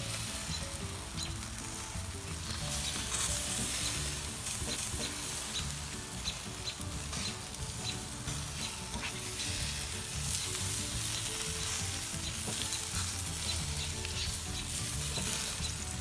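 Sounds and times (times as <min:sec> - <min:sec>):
meat sizzling on a grill: 0:00.0 - 0:16.0.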